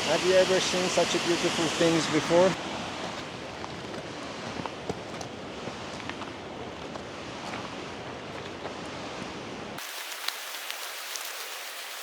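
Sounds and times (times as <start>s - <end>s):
rushing outdoor noise: 0.0s - 12.0s.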